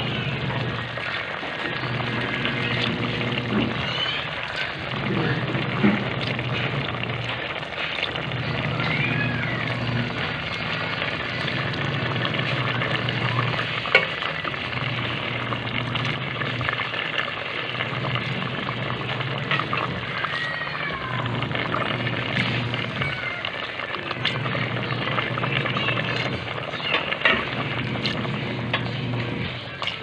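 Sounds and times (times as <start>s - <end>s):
food sizzling in pot: 0.0s - 30.0s.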